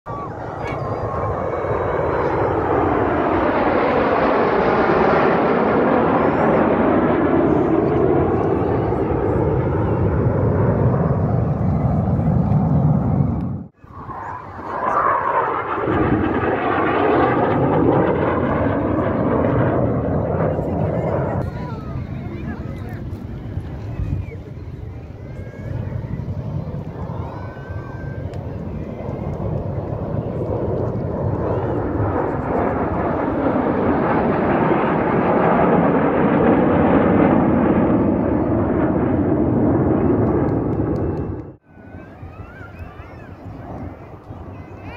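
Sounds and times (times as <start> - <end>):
jet aircraft flying overhead: 0.1 - 44.9.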